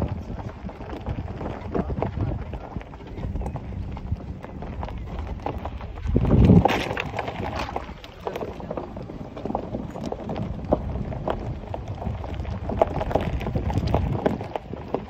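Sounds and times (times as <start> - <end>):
horse hooves clopping on stony track: 0.0 - 15.0
low rumble: 0.0 - 15.0.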